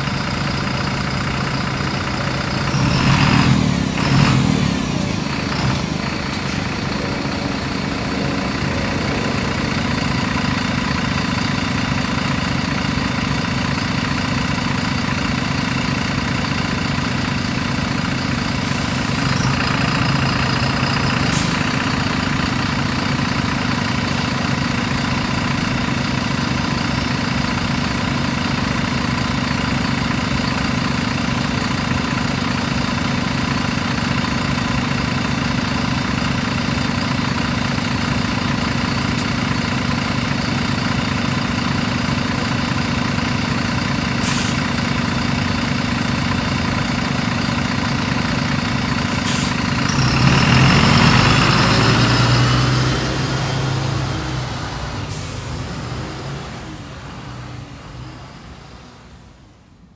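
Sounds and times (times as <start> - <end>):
diesel bus engine idling: 0.0 - 59.9.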